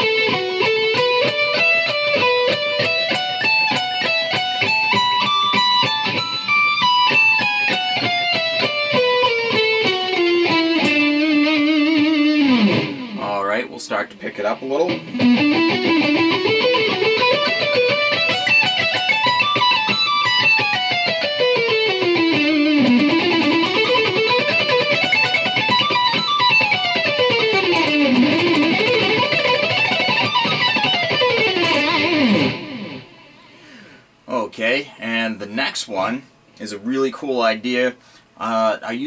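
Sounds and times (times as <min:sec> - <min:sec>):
electric guitar fast lead lick: 0:00.0 - 0:13.4, 0:14.4 - 0:34.0.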